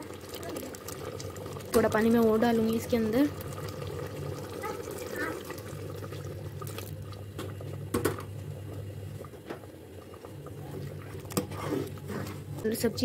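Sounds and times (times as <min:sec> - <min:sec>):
curry bubbling in pot: 0:00.0 - 0:13.0.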